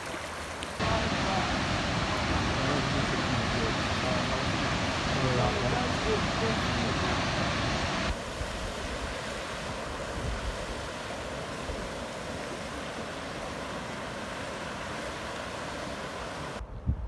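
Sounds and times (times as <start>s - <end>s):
water rushing: 0.0s - 16.6s.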